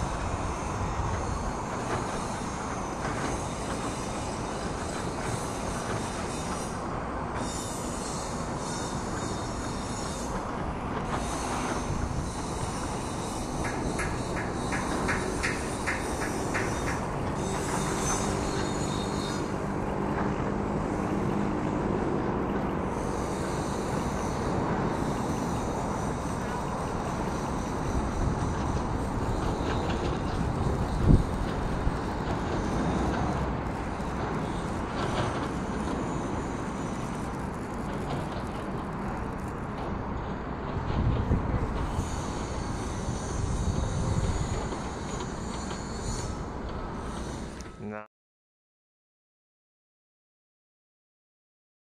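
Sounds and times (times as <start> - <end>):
jet engine noise: 0.0 - 47.8.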